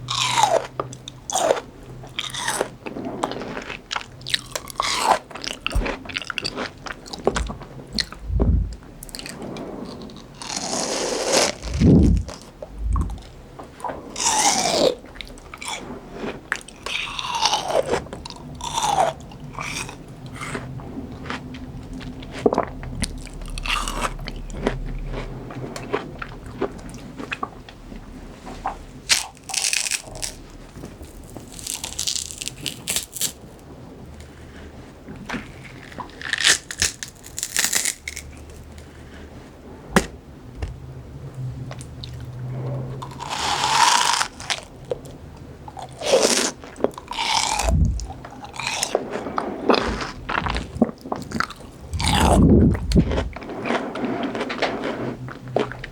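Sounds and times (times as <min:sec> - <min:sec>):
biting and chewing crunchy fruit: 0:00.0 - 0:27.8, 0:28.6 - 0:33.5, 0:35.2 - 0:39.0, 0:41.7 - 0:55.9.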